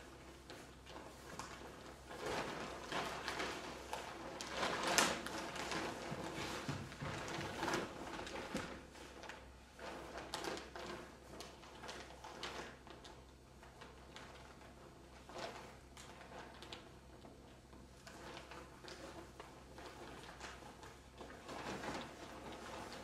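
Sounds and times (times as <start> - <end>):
plastic bags rustling and scraping: 0.0 - 23.0.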